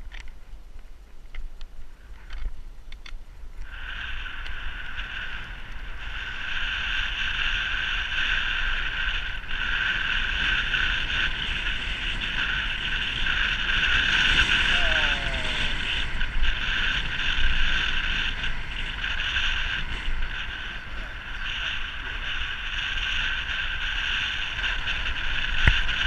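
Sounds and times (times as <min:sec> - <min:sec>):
wind rushing over camera: 0:00.0 - 0:26.0.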